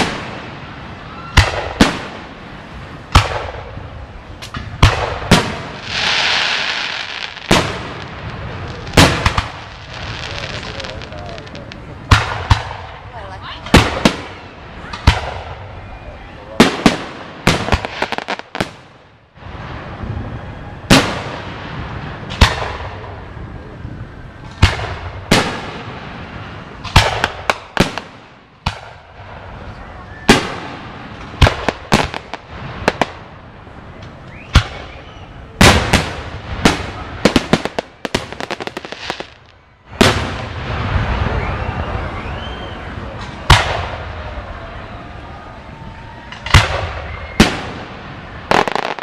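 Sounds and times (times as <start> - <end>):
fireworks bursting with sharp bangs: 0.0 - 45.6, 46.2 - 49.0.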